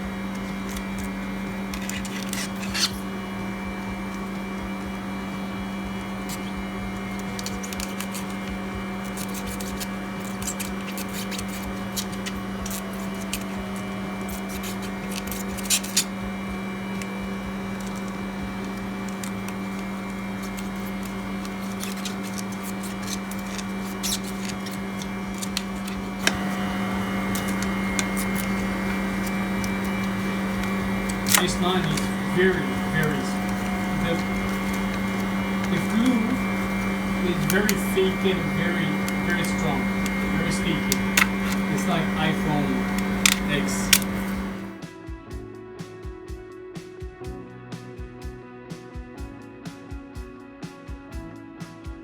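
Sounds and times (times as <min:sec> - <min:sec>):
electrical machine hum: 0:00.0 - 0:44.8.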